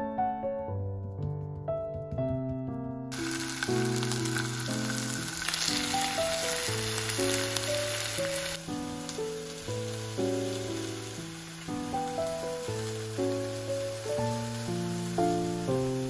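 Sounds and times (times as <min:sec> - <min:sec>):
gentle piano music: 0:00.0 - 0:16.0
meat sizzling in frying pan: 0:03.1 - 0:16.0.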